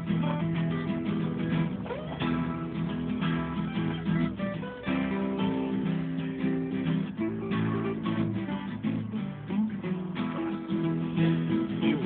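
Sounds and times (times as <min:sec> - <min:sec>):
acoustic guitars strumming chords: 0:00.0 - 0:12.0.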